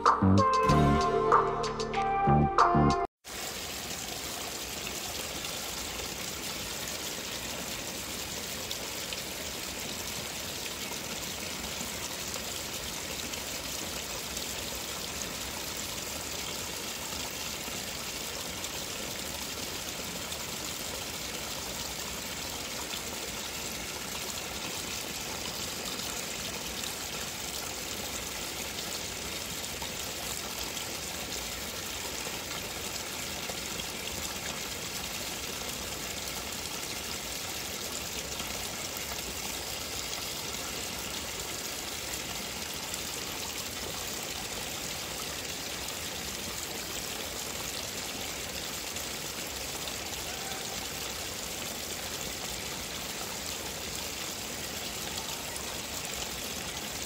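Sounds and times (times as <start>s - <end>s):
small waterfall splashing into pool: 3.2s - 57.0s.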